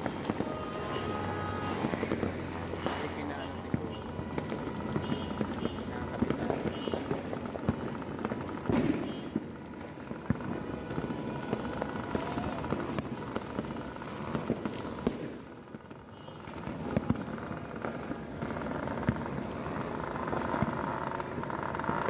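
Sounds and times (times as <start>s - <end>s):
crackling hiss of fountains: 0.0s - 22.0s
fireworks popping and banging: 0.0s - 22.0s.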